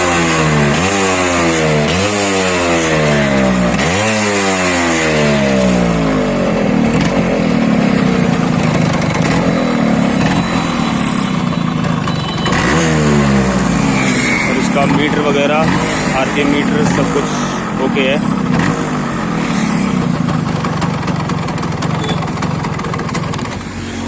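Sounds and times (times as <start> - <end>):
two-stroke engine revving and idling: 0.0 - 24.0.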